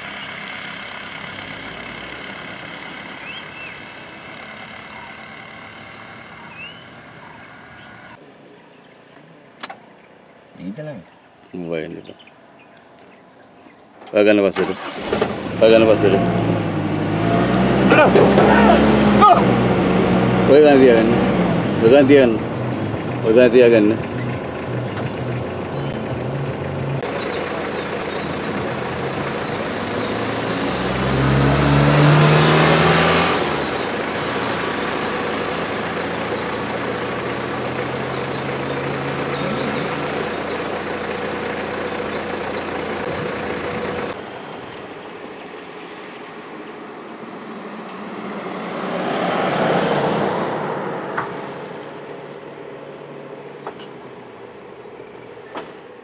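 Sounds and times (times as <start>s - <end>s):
vehicle passing by: 0.0s - 8.2s, 14.8s - 53.6s
engine rumble: 0.0s - 56.0s.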